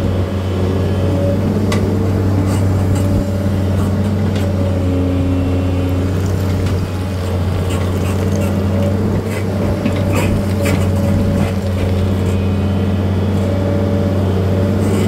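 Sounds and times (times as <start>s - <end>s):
machine engine running: 0.0s - 15.0s.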